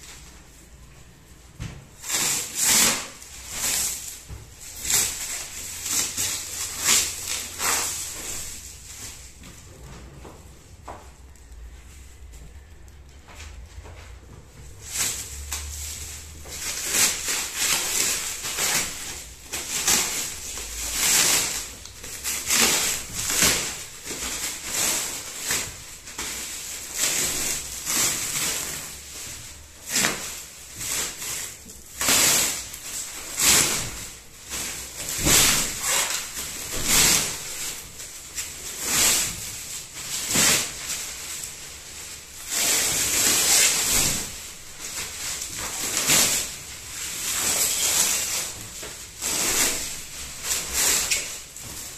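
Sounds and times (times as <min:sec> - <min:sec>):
plastic wrapping crinkling: 0:00.0 - 0:51.9.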